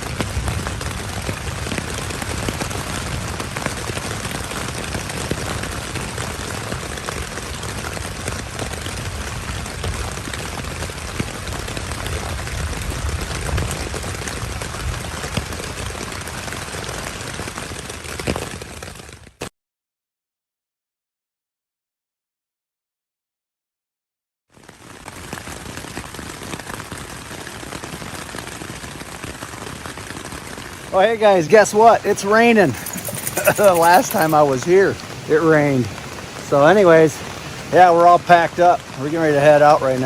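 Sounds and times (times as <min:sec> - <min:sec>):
heavy rain falling: 0:00.0 - 0:19.4, 0:24.6 - 0:40.0.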